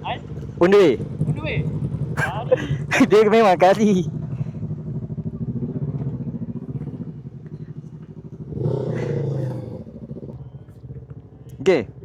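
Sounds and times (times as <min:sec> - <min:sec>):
motorcycle engine idling: 0:00.0 - 0:12.0
motorcycle revving past: 0:00.0 - 0:12.0.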